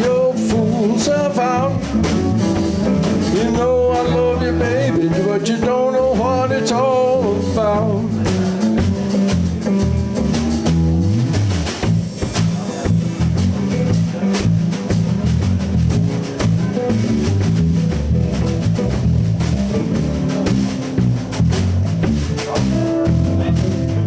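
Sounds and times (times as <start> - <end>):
bass guitar: 0.0 - 24.0
drum kit shuffle beat: 0.0 - 24.0
electric guitar: 0.0 - 24.0.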